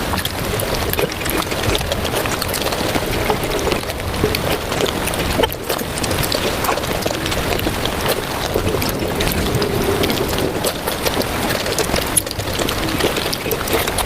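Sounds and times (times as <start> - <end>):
wet chewing and slurping: 0.0 - 14.0.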